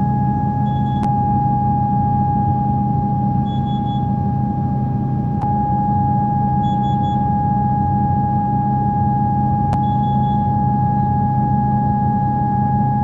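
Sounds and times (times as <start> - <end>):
high-pitched electrical whine: 0.0 - 13.0
low hum: 0.0 - 13.0.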